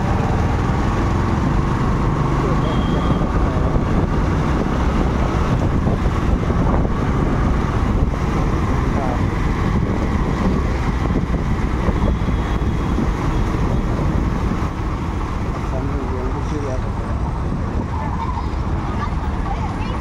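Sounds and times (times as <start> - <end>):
road and engine noise: 0.0 - 20.0
wind buffeting microphone: 3.0 - 20.0.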